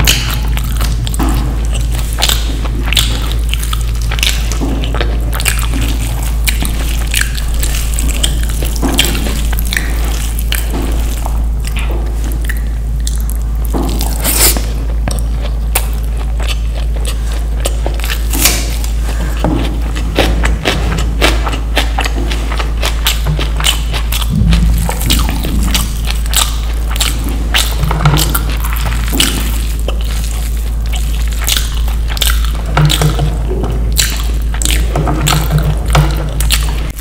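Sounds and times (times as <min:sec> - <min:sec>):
mouth clicks and smacks: 0:00.0 - 0:37.0
steady low hum: 0:00.0 - 0:37.0
wet chewing: 0:00.0 - 0:37.0.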